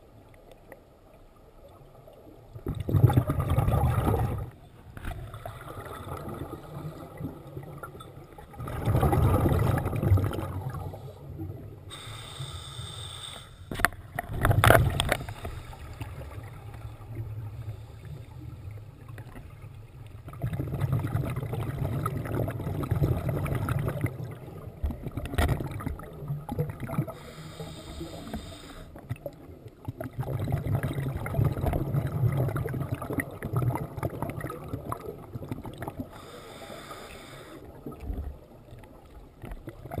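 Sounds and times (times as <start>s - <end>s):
underwater exhaled bubbles: 1.6s - 12.4s, 13.7s - 40.0s.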